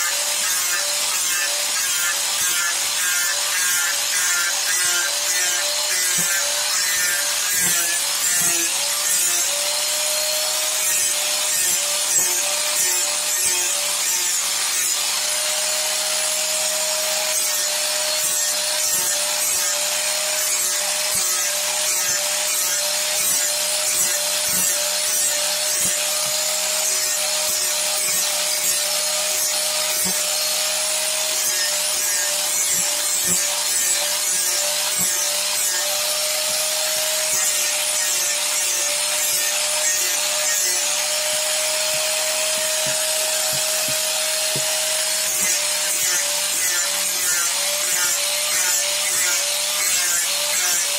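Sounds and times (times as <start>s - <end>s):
angle grinder motor whine: 0.0s - 50.9s
sanding disc scouring wood: 0.0s - 50.9s.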